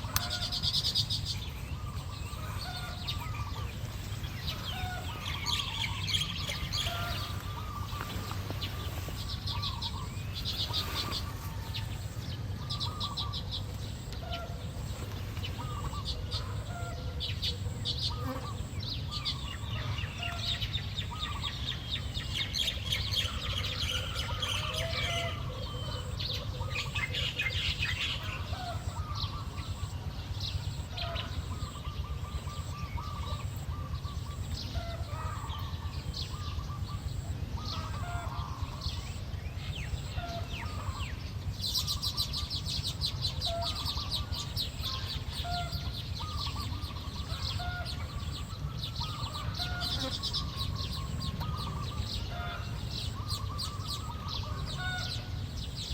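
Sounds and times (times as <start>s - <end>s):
birds chattering: 0.0s - 55.9s.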